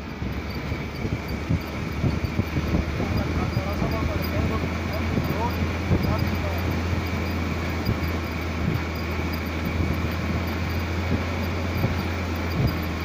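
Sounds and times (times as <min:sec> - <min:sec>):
road and wind noise: 0:00.0 - 0:13.0
truck engine drone: 0:00.0 - 0:13.0.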